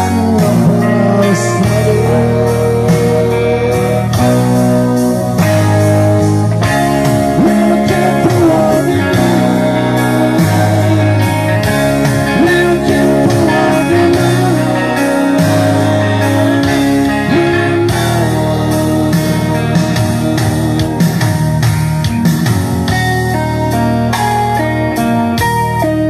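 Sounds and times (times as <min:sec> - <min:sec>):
rock guitar lead line: 0:00.0 - 0:26.0
sustained bass notes: 0:00.0 - 0:26.0.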